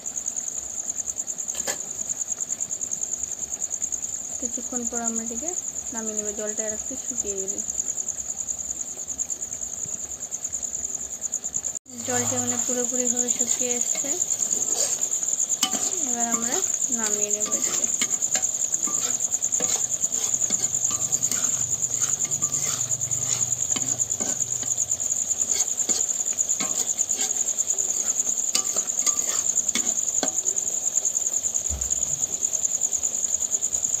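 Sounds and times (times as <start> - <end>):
crickets chirping: 0.0 - 34.0
curry sizzling and popping: 0.0 - 34.0.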